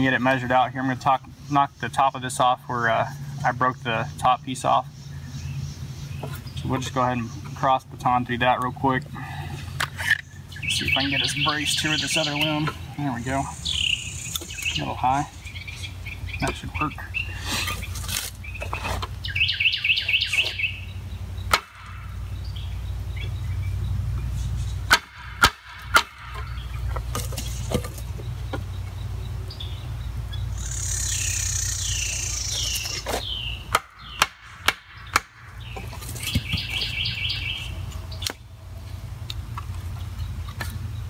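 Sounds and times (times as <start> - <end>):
birds chirping trills: 0.0 - 41.0.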